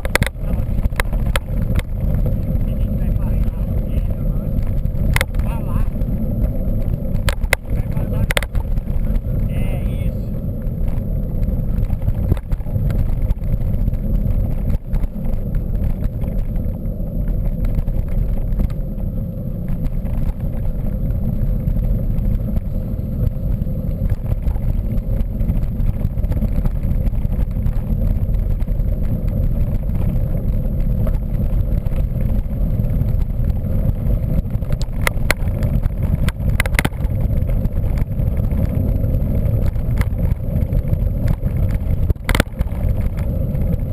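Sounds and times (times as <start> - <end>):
bike rattles: 0.0 - 43.9
bike riding noise: 0.0 - 43.9
wind rumble on microphone: 0.0 - 43.9.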